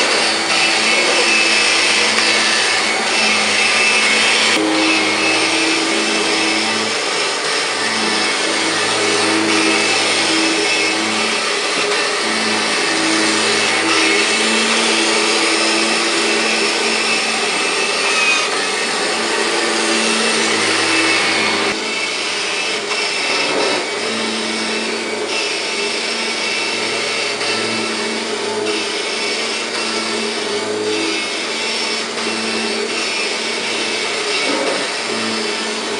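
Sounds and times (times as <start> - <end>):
vacuum cleaner on carpet: 0.0 - 35.9.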